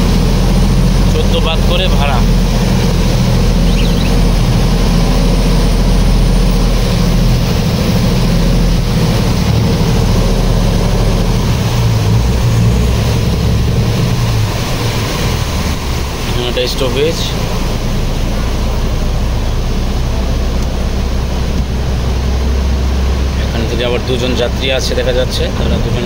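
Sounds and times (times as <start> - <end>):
boat engine running: 0.0 - 26.0
water rushing along hull: 0.0 - 26.0.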